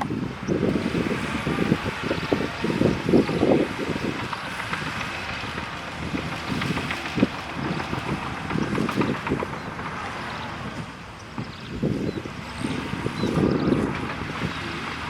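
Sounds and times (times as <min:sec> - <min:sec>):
bulldozer engine running: 0:00.0 - 0:15.0
wind buffeting microphone: 0:00.0 - 0:15.0.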